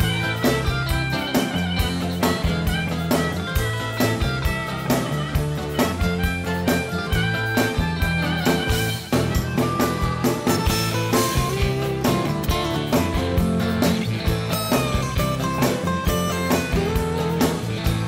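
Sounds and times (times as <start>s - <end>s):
bass guitar: 0.0s - 18.0s
lead guitar: 0.0s - 18.0s
steady drum beat: 0.0s - 18.0s.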